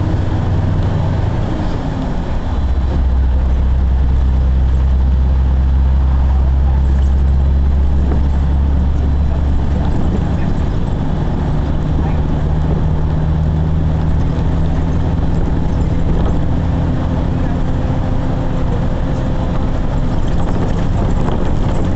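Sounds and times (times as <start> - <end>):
engine droning: 0.0 - 21.9.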